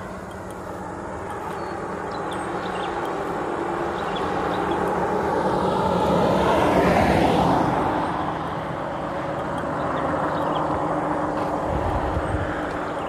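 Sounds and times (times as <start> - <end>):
steady low hum: 0.0 - 13.0
vehicle driving past: 0.0 - 13.0.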